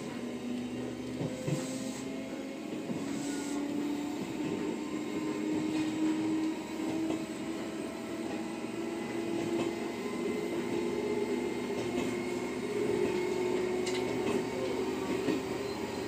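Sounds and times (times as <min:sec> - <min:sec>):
train drive whine: 0:00.0 - 0:16.0
wheels rumbling on rail: 0:00.0 - 0:16.0.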